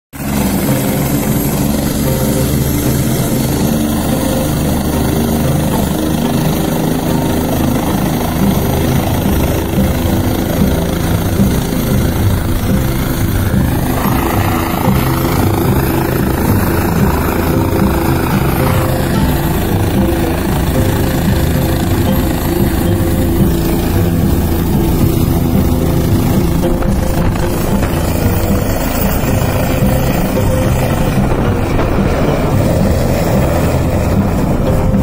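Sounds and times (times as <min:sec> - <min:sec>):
helicopter engine and rotors: 0:00.2 - 0:35.0.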